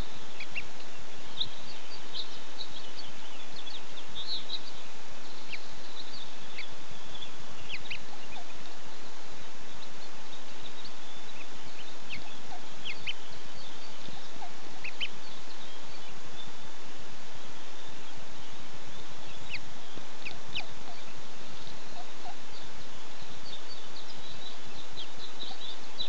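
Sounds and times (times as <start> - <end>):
ducklings peeping: 0.0 - 26.0
steady hiss: 0.0 - 26.0.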